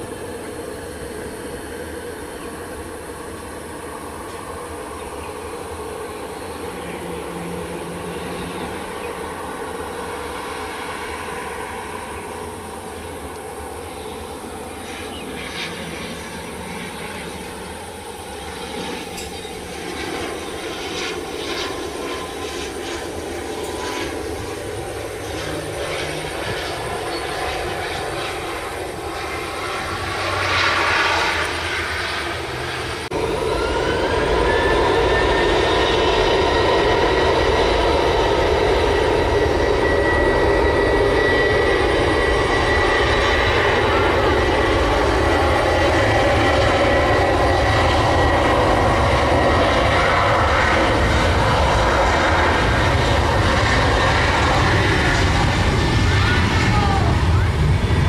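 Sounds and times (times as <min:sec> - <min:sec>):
jet engines spooling up: 0:00.0 - 0:58.0
turboprop propellers droning: 0:00.0 - 0:58.0.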